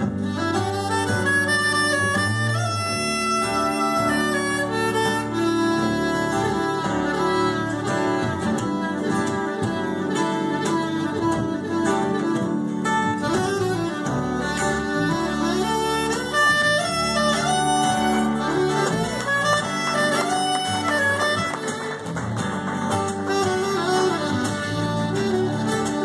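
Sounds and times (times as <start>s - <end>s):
soprano saxophone melody: 0.0s - 22.1s, 22.9s - 26.0s
strummed acoustic guitars: 0.0s - 26.0s
upright double bass: 0.0s - 26.0s.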